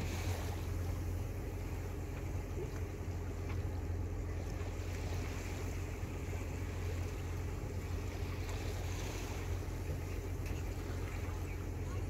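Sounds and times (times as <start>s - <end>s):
water washing along hull: 0.0s - 12.0s.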